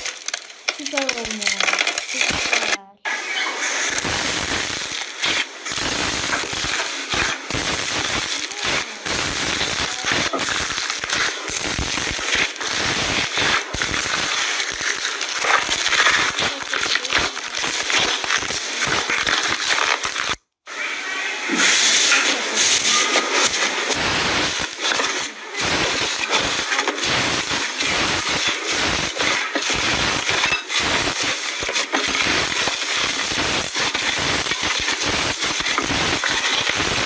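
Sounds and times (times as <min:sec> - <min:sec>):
crunchy slime crackling: 0:00.0 - 0:02.9, 0:03.9 - 0:20.4, 0:22.8 - 0:37.0.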